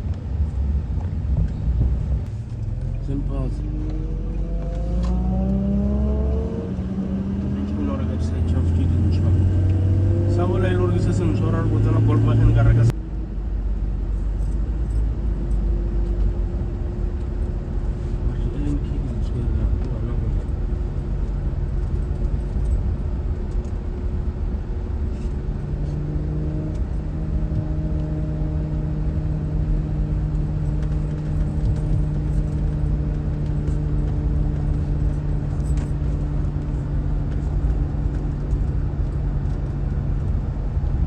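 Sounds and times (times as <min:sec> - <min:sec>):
car engine drone: 0:00.0 - 0:41.0
road rumble: 0:00.0 - 0:41.0.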